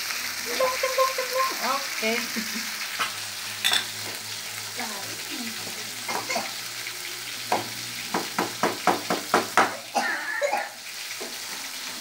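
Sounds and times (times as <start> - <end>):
sauce sizzling in frying pan: 0.0 - 12.0.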